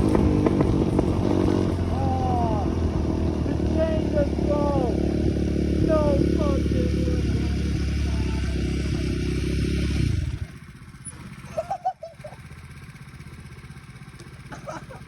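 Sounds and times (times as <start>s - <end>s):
small off-road engine running: 0.0s - 15.0s.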